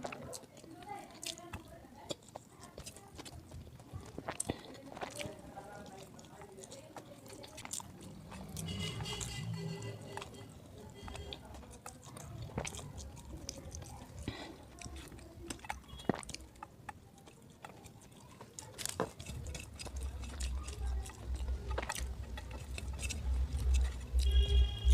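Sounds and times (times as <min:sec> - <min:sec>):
chewing with wet mouth clicks: 0:00.0 - 0:24.9.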